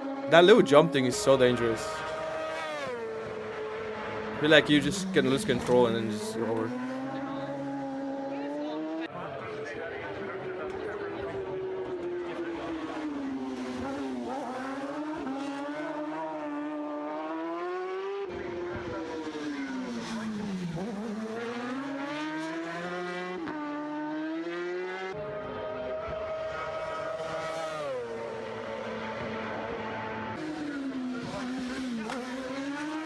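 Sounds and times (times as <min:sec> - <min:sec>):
racing motorcycle engine revving: 0:00.0 - 0:33.0.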